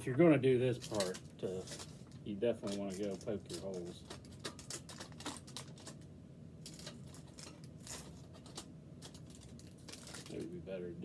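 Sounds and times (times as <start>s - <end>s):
aluminum foil being punctured: 0.8s - 6.0s, 6.6s - 10.5s.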